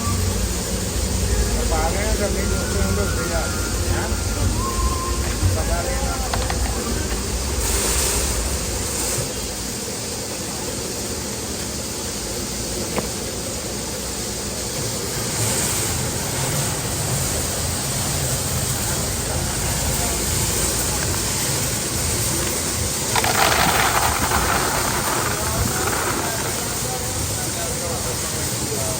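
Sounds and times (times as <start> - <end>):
loud hiss: 0.0 - 28.9
machinery hum: 0.0 - 28.9.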